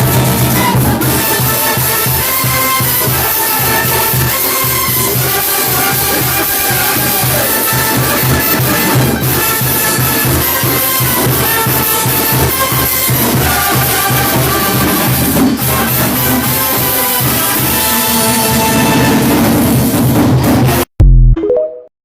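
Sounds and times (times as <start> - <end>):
cumbia band music: 0.0 - 20.9.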